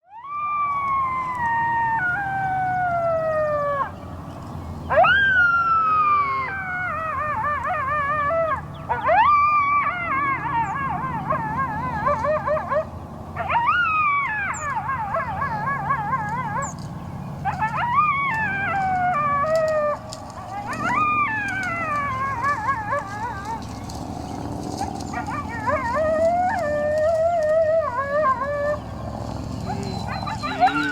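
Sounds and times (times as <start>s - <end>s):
coyote howls: 0.0s - 30.9s.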